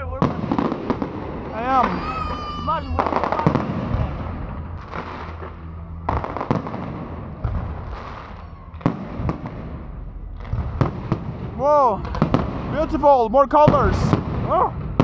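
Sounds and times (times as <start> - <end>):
crackling hiss of fireworks: 0.0 - 15.0.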